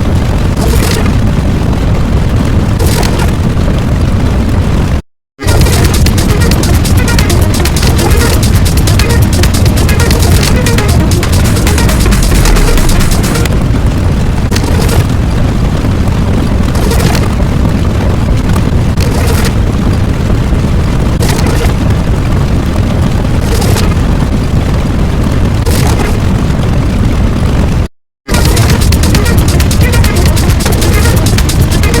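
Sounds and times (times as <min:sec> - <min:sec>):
crackling surges: 0:00.0 - 0:32.0
explosion-like rumble: 0:00.0 - 0:32.0.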